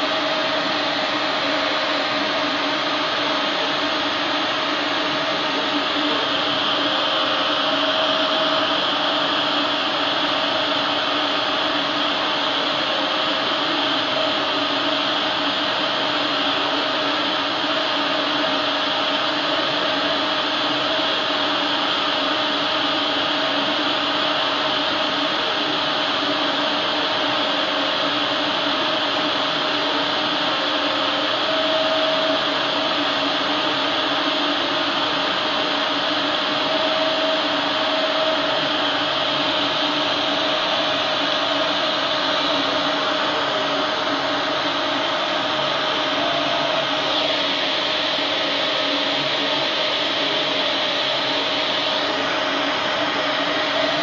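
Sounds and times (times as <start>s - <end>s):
laser cutter fans whirring: 0.0s - 54.0s.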